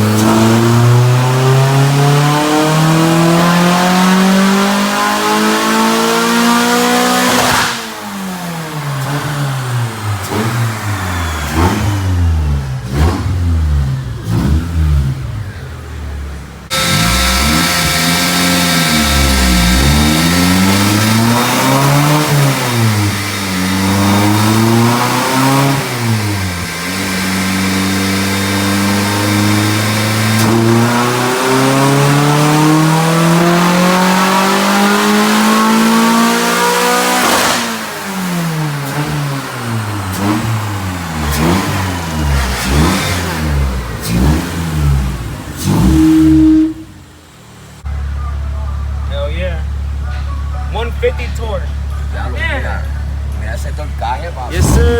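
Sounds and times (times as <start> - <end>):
car engine revving on a dyno: 0.0 - 15.6, 16.6 - 47.9, 54.5 - 54.9.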